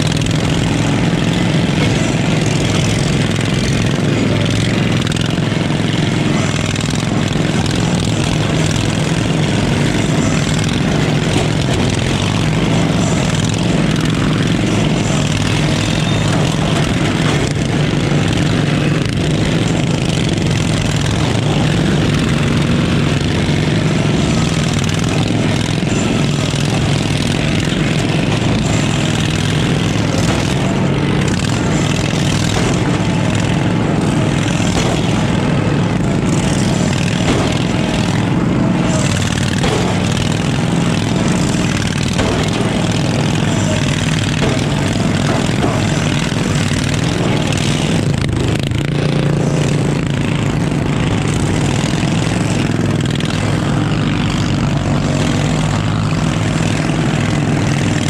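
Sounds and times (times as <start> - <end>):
riding lawn mower engine running: 0.0 - 58.0.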